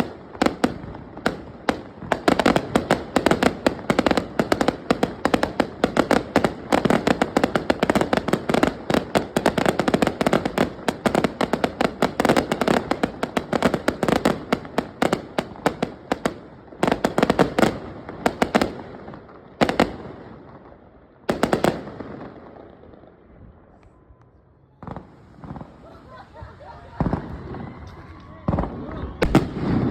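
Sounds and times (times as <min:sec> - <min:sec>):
fireworks bangs and crackling: 0:00.0 - 0:24.0, 0:24.6 - 0:29.9.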